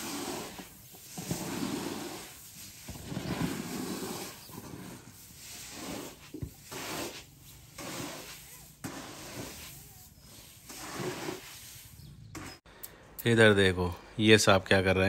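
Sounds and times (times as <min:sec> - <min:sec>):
maize kernels scraped on concrete: 0:00.0 - 0:12.6.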